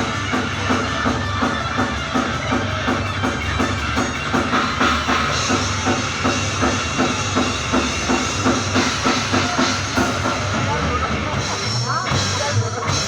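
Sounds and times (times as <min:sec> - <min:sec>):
distorted guitar and bass: 0:00.0 - 0:13.0
fast drum beat: 0:00.0 - 0:13.0
heavy metal band playing live: 0:00.0 - 0:13.0.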